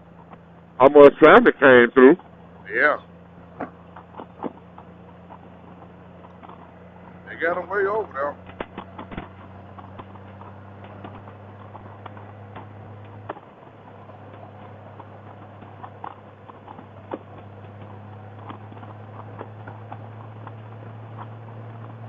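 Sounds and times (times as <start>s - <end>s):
motorcycle engine idling: 0.0s - 22.0s
light irregular ticks and clicks: 3.5s - 22.0s.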